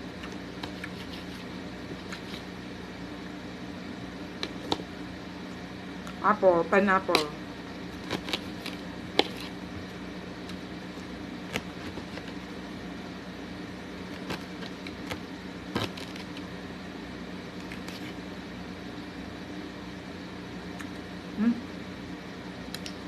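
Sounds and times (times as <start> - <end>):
low hum of room equipment: 0.0 - 23.0.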